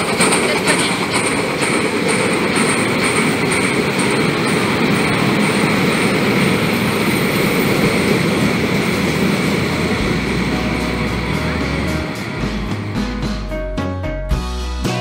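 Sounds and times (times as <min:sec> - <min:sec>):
train wheels rumbling on rails: 0:00.0 - 0:13.7.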